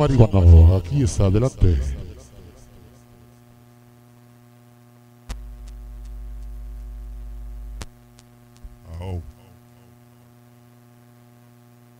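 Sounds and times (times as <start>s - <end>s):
electrical mains hum: 0.0s - 11.9s.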